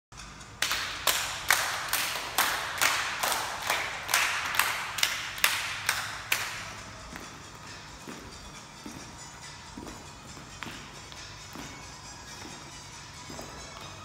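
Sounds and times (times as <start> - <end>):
sharp strikes echoing in hall: 0.2 - 14.0.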